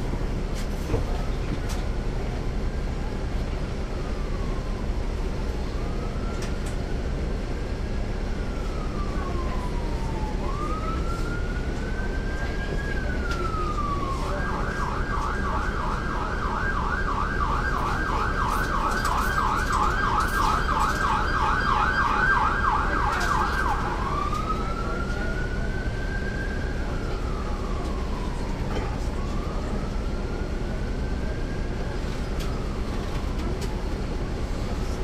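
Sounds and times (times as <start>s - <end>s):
bus engine rumble: 0.0s - 35.0s
emergency siren: 0.2s - 35.0s.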